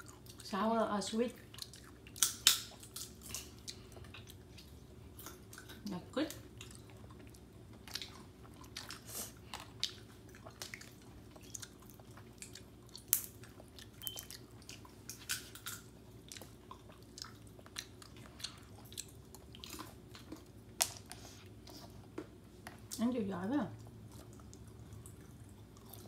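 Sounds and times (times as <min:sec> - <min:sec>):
child chewing: 0:00.0 - 0:05.8, 0:06.4 - 0:23.0, 0:23.8 - 0:26.0.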